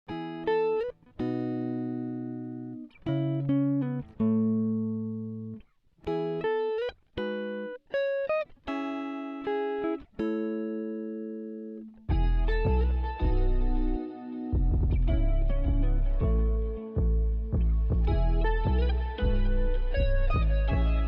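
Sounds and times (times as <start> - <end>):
solo guitar playing slow phrases: 0.1 - 21.0.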